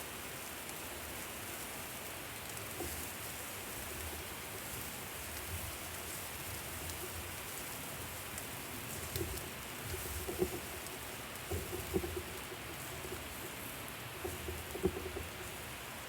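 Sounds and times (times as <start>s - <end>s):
food sizzling on a grill: 0.0s - 16.0s.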